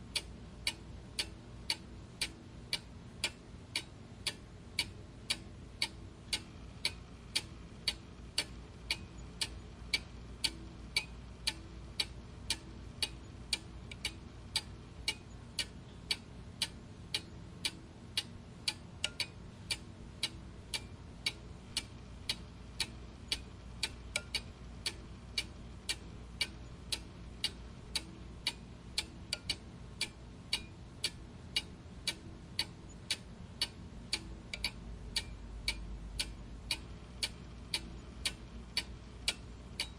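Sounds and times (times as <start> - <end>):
faint low hum: 0.0 - 39.9
clock ticking: 0.1 - 39.9.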